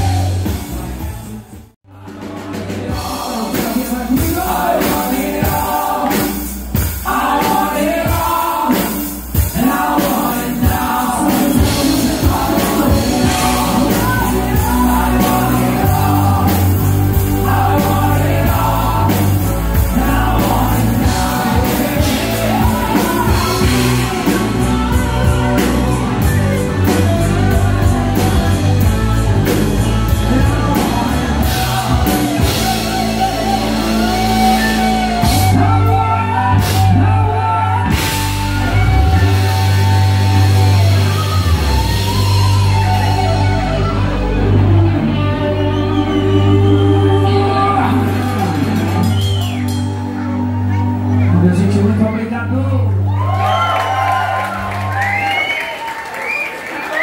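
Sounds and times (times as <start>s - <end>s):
live band with singer: 0.0s - 57.0s.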